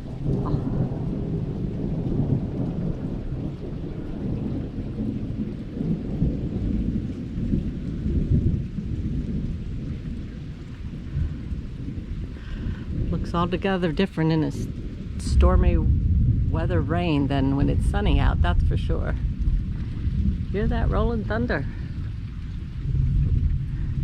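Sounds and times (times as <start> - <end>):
heavy rain: 0.0 - 24.0
rolling thunder: 0.0 - 24.0.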